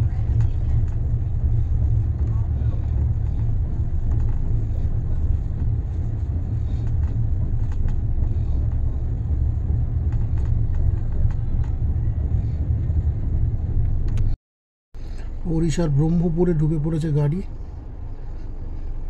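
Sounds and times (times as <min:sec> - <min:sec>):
train rumbling: 0:00.0 - 0:14.4, 0:15.0 - 0:19.0.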